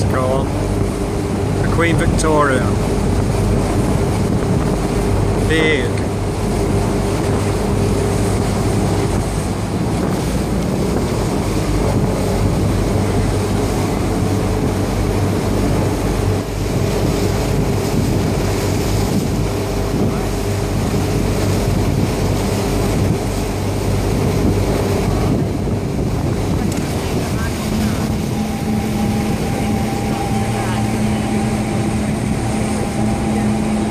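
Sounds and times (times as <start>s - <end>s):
boat engine running: 0.0s - 33.9s
wind buffeting microphone: 0.0s - 33.9s.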